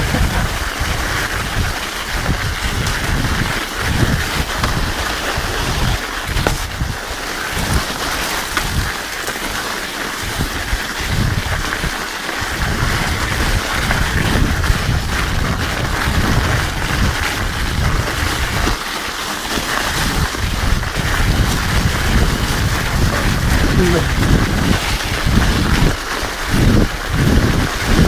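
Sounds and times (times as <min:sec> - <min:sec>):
wind buffeting microphone: 0:00.0 - 0:09.1, 0:10.2 - 0:18.8, 0:19.8 - 0:28.0
studded bike tires rolling on ice: 0:00.0 - 0:28.0.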